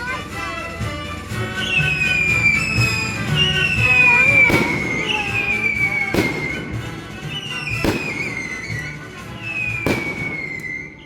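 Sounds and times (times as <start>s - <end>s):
fireworks bursting with bangs: 1.6s - 11.0s.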